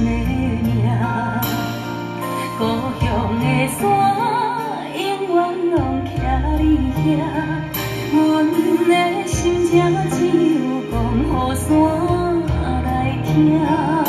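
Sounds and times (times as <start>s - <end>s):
woman singing a ballad with band: 0.0s - 14.0s.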